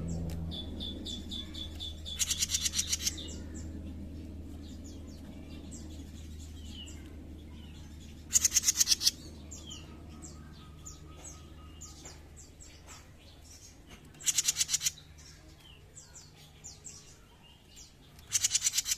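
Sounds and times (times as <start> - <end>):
rapid rattling bird trill: 0.0 - 18.9
songbird high chirps: 0.0 - 18.9.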